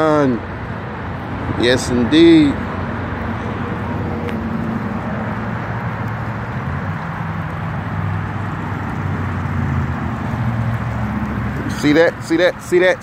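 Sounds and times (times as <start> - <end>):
road traffic rumble: 0.0 - 13.0
low engine hum: 0.4 - 13.0.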